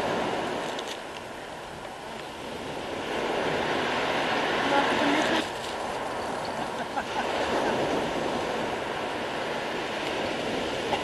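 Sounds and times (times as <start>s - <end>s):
waves breaking on pebble beach: 0.0s - 11.0s.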